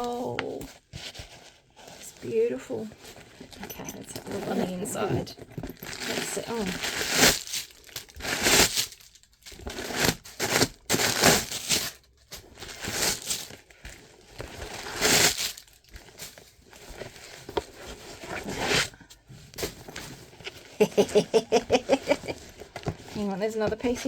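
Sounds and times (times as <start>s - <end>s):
packing stuffing rustling: 0.0s - 24.0s.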